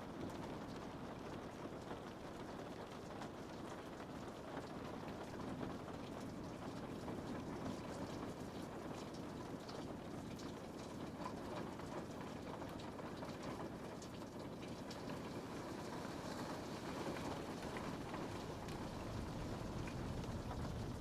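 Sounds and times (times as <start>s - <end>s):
rain pattering on a window: 0.0s - 21.0s.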